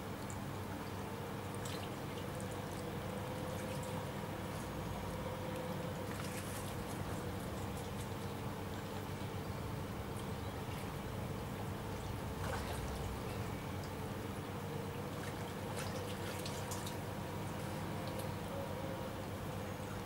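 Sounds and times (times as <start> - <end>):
river water trickling: 0.0 - 20.0.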